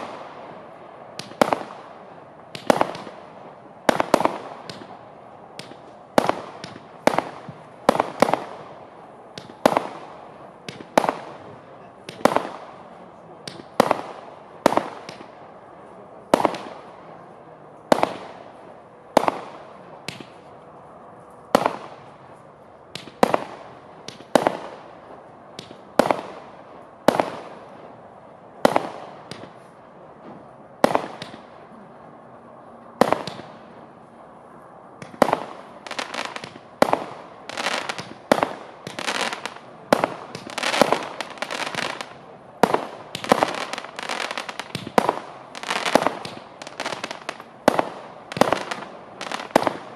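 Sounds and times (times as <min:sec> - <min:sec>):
fireworks bangs: 0:00.0 - 0:15.4, 0:16.2 - 0:20.6, 0:21.5 - 0:27.9, 0:28.6 - 0:32.0, 0:33.0 - 0:33.9, 0:35.0 - 0:49.9.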